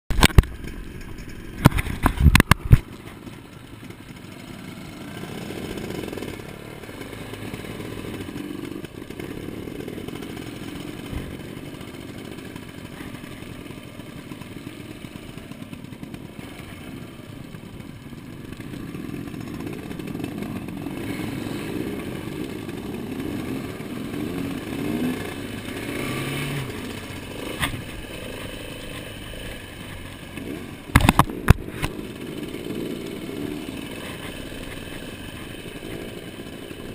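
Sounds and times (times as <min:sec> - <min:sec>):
dirt bike engine: 0:00.1 - 0:36.9.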